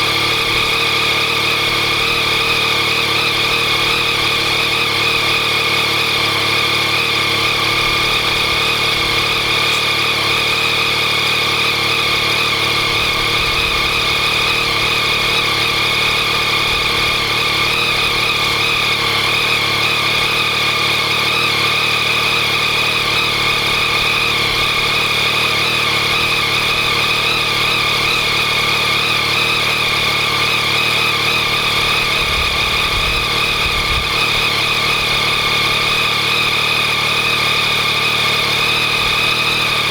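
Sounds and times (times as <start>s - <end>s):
engine rattling and ticking: 0.0s - 39.9s
motorcycle engine idling: 0.0s - 39.9s.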